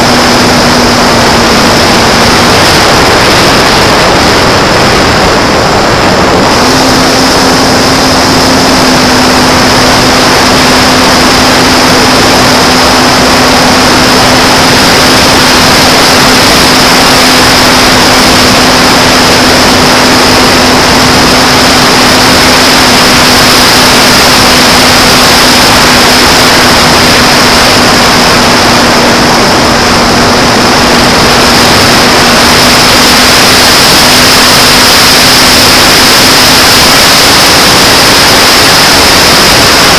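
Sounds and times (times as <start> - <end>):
electric motor high whine: 0.0 - 39.9
loud wind rushing over microphone: 0.0 - 39.9
propeller low drone: 0.0 - 39.9.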